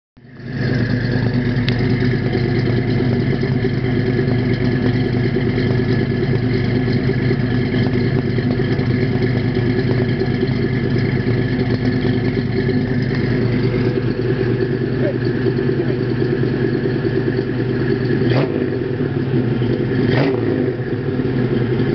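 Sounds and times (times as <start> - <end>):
car engine idling: 0.2 - 21.9.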